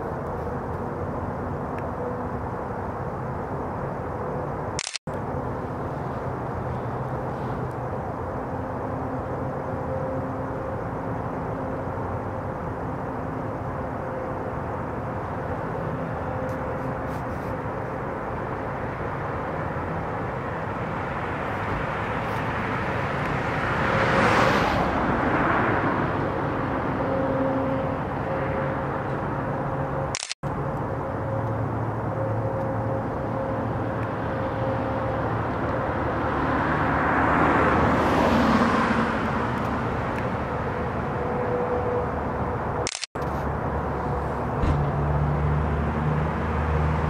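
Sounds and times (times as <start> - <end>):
road traffic noise: 0.0 - 47.0
vehicles passing: 0.0 - 47.0.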